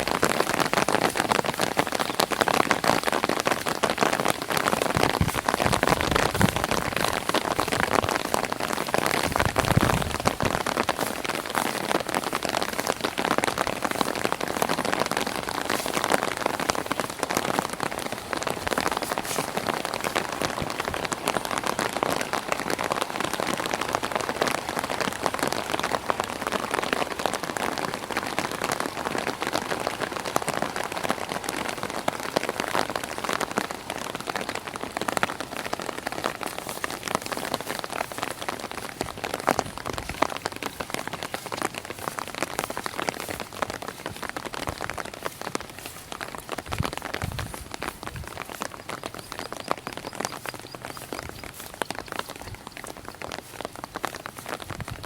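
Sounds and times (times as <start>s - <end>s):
light rain on an umbrella: 0.0s - 55.0s.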